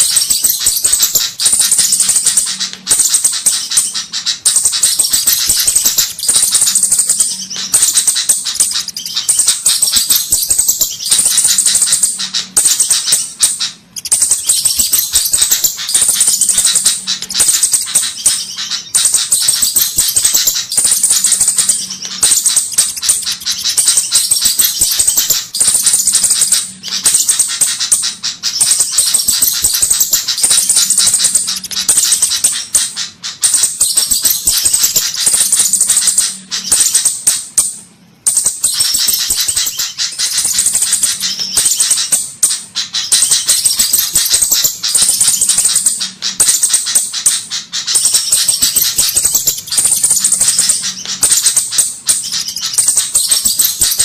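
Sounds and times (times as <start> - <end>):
thin high bird trill: 0.0 - 37.6, 38.2 - 54.0
bird ticking and chattering: 0.0 - 54.0.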